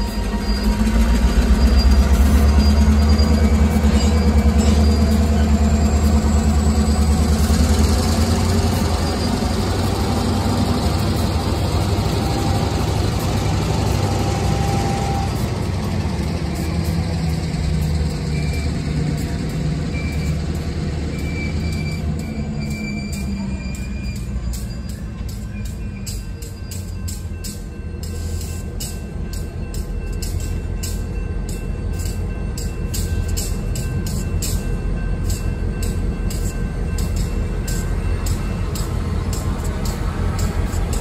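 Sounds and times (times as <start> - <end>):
diesel locomotive engines rumbling: 0.0 - 41.0.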